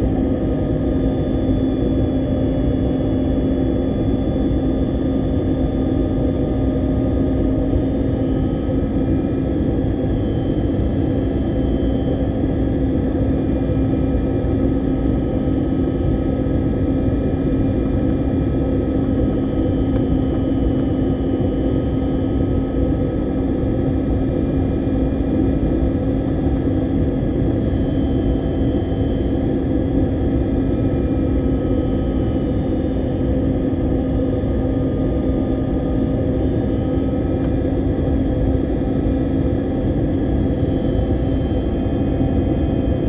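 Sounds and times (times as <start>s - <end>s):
airliner engines droning: 0.0s - 43.0s
constant low hum: 0.0s - 43.0s.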